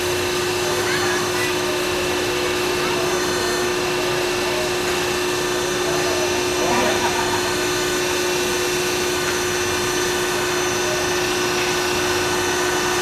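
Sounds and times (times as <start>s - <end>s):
car wash machinery whining: 0.0s - 13.0s.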